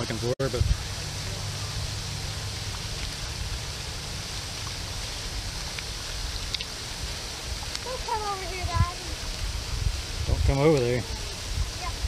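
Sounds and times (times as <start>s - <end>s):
fountain spray rushing: 0.0s - 12.0s.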